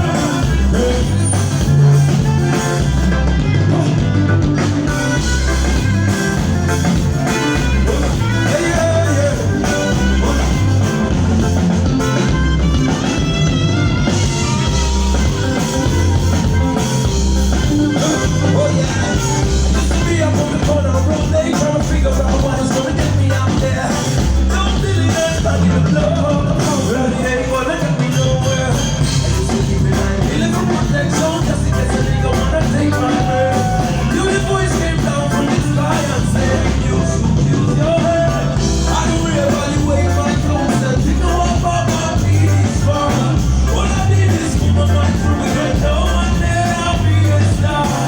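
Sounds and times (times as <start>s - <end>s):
amplified band music: 0.0s - 48.0s
heavy bass line: 0.0s - 48.0s.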